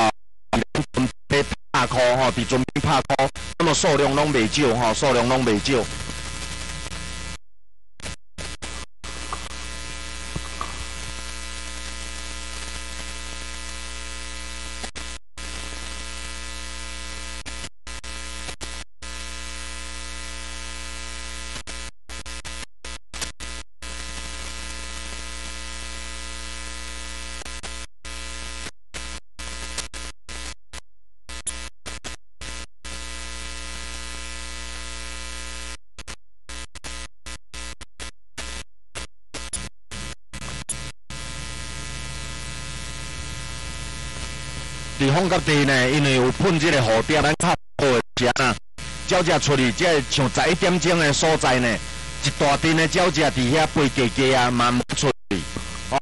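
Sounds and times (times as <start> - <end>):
steady electrical buzz: 1.0 - 7.4, 8.0 - 30.6, 31.3 - 56.0.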